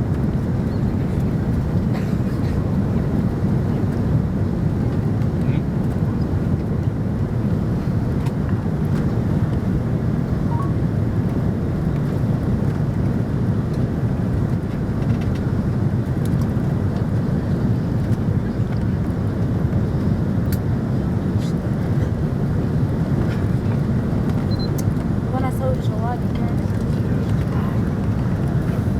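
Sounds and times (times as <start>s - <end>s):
jet engine and airflow rumble: 0.0s - 28.9s.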